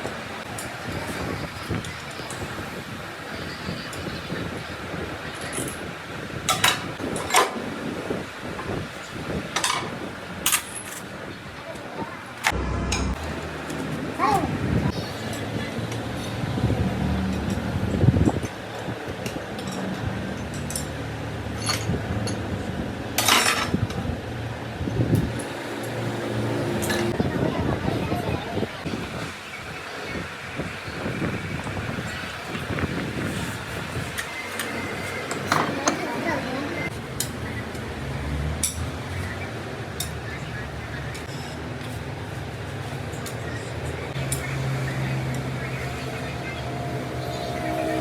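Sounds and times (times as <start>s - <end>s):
workshop background noise: 0.0s - 48.0s.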